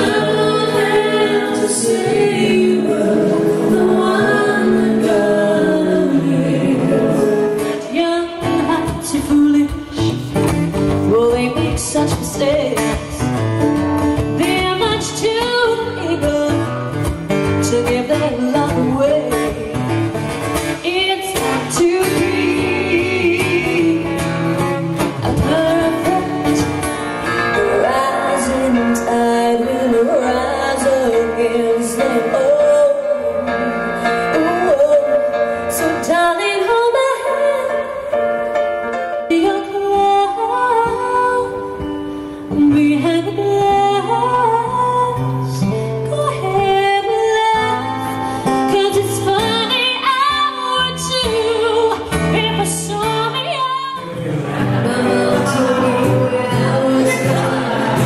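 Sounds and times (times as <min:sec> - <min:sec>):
woman singing: 0:00.0 - 0:13.3, 0:14.2 - 0:38.2, 0:39.1 - 0:58.0
acoustic guitar: 0:00.0 - 0:58.0
piano: 0:00.0 - 0:58.0.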